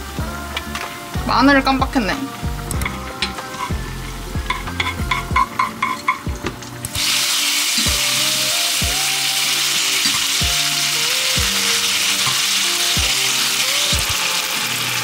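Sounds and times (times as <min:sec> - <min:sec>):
garlic sizzling in hot oil: 0:00.0 - 0:06.2, 0:06.8 - 0:15.0
background music with beat: 0:00.0 - 0:15.0.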